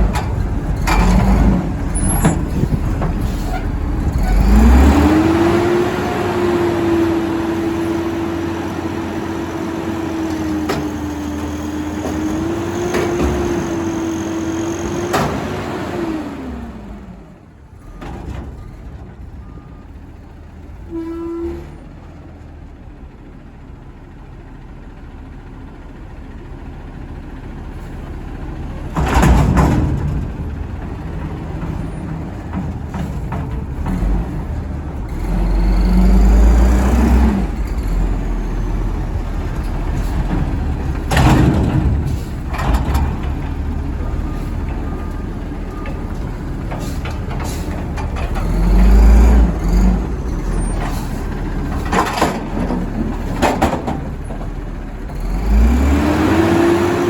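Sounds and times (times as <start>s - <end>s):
garbage truck engine revving: 0.0s - 17.4s, 28.3s - 57.0s.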